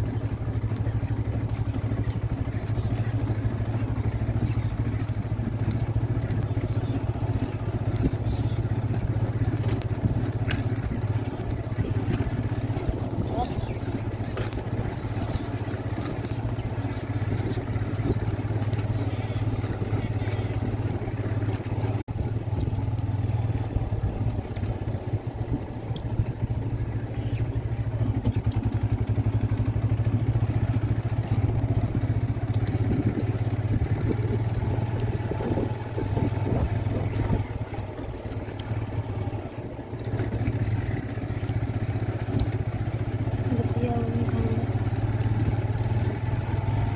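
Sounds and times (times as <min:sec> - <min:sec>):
engine droning: 0:00.0 - 0:46.9.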